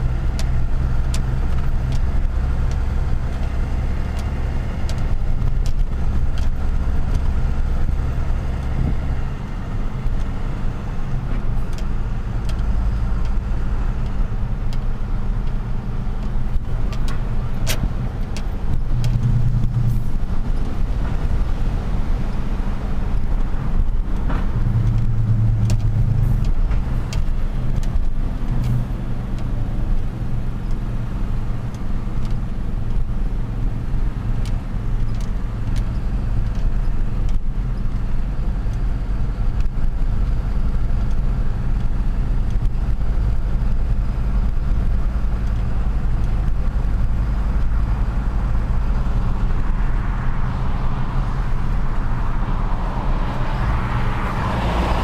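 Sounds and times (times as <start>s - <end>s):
truck engine humming: 0.0s - 55.0s.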